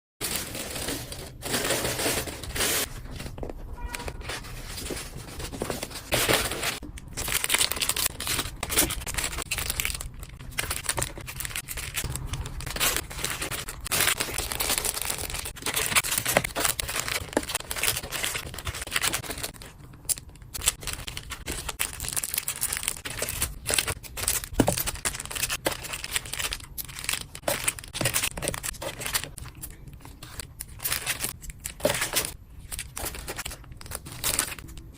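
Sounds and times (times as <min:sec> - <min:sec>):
packaging rustling and crinkling: 0:00.2 - 0:34.9
packaging tearing: 0:04.1 - 0:34.9.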